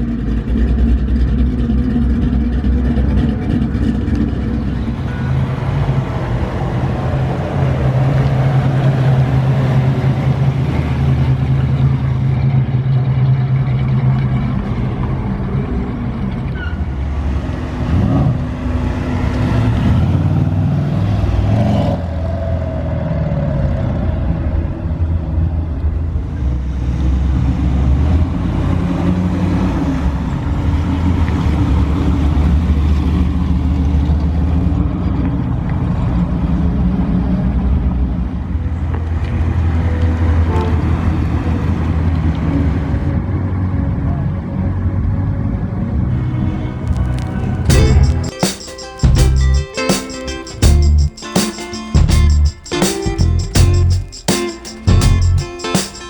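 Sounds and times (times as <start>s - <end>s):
cars driving slowly past: 0.0s - 46.2s, 46.9s - 48.4s.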